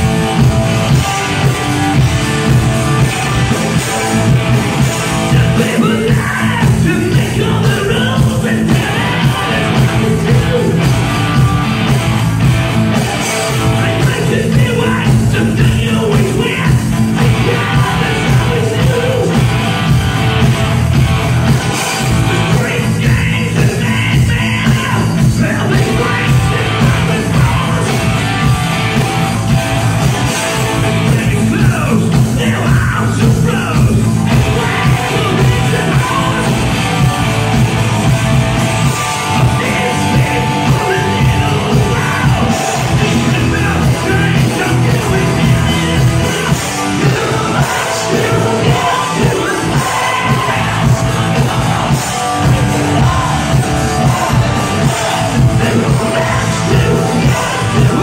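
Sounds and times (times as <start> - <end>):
male lead singer vocals: 0.0 - 12.0, 12.9 - 20.7, 21.5 - 58.0
hard rock band playing live: 0.0 - 58.0.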